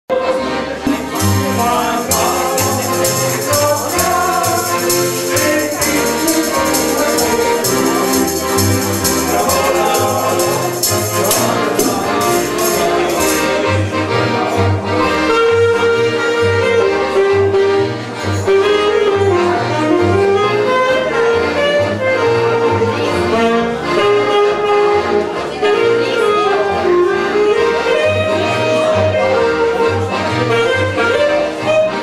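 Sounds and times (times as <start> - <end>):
accordion chords: 0.1 - 32.0
saxophone melody: 0.1 - 32.0
walking double bass line: 0.3 - 32.0.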